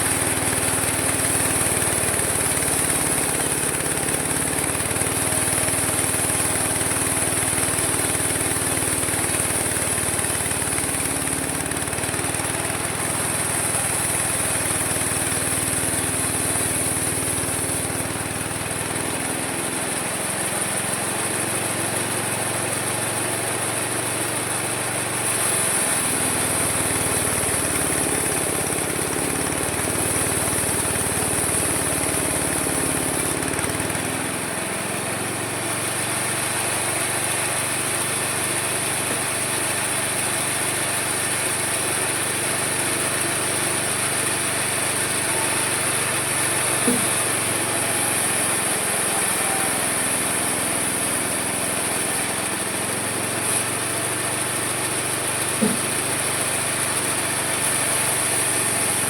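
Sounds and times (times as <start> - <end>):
sawmill machine whining: 0.0 - 59.0.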